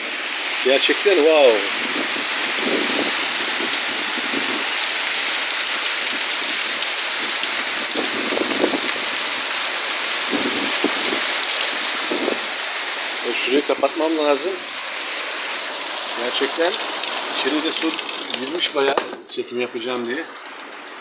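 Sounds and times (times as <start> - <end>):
heavy rain pouring: 0.0 - 19.2.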